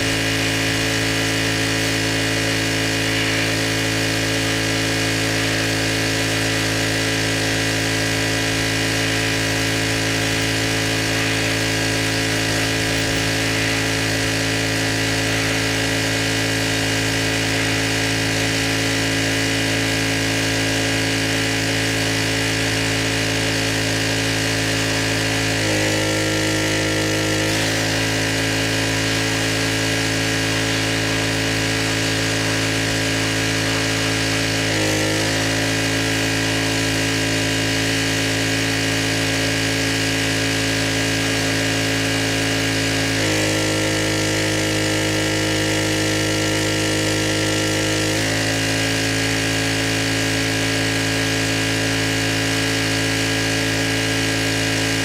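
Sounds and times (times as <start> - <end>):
pressure washer running: 0.0 - 55.0.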